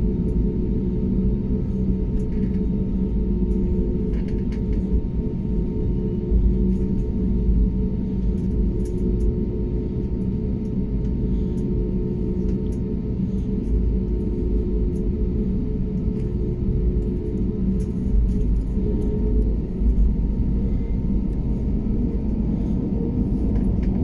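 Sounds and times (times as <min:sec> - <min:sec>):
faint steady hum: 0:00.0 - 0:24.0
jet engine cabin drone: 0:00.0 - 0:24.0.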